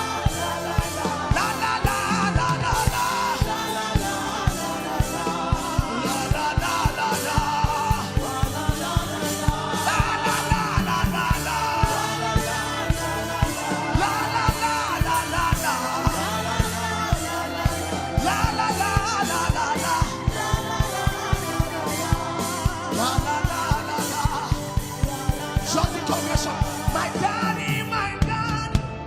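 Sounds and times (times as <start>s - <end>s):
fast drum beat: 0.0s - 28.6s
person singing without words: 0.0s - 28.8s.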